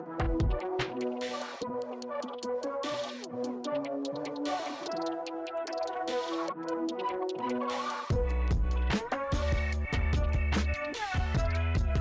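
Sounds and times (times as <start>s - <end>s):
music with steady beat and deep bass: 0.0s - 12.0s.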